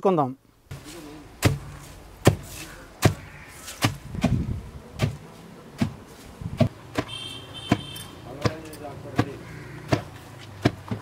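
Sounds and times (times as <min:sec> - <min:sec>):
pestle pounding in stone mortar: 0:01.4 - 0:05.2, 0:05.8 - 0:11.0.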